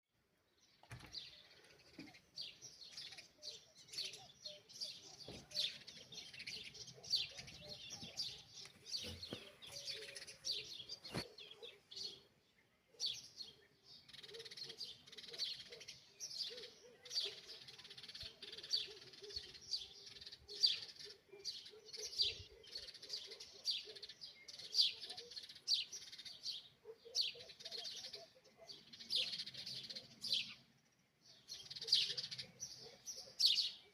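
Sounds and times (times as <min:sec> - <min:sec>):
small birds chirping: 0:00.4 - 0:33.9.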